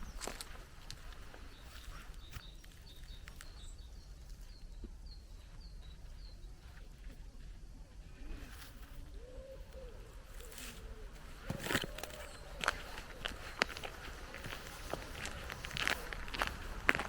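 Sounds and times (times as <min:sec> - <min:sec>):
footsteps on path: 0:00.0 - 0:07.6, 0:10.4 - 0:17.0
steady low rumble: 0:00.0 - 0:17.0
small bird chirping: 0:01.4 - 0:07.2, 0:07.9 - 0:16.1.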